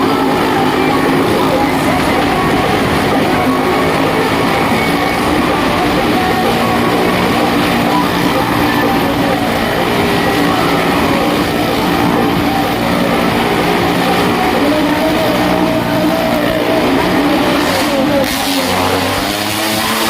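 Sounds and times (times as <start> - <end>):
car and motorcycle engines circling: 0.0 - 20.0.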